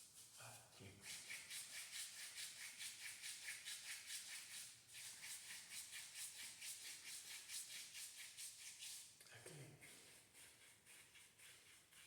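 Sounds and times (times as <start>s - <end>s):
hands rubbing skin: 1.0s - 9.1s, 9.8s - 12.0s.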